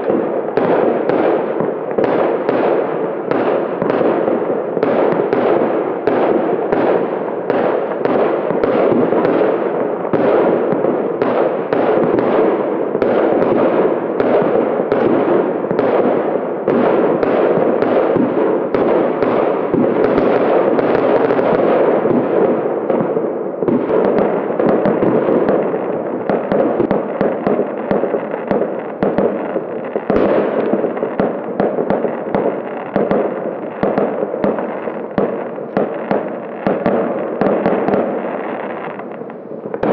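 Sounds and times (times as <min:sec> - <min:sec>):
distant explosions: 0:00.0 - 0:39.9
fireworks bangs and crackle: 0:00.0 - 0:39.9.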